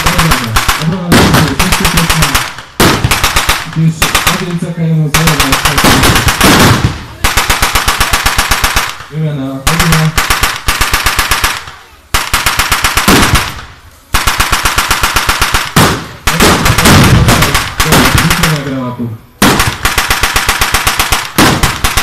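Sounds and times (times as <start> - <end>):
machine gun bursts: 0.0 - 18.8, 19.4 - 22.0.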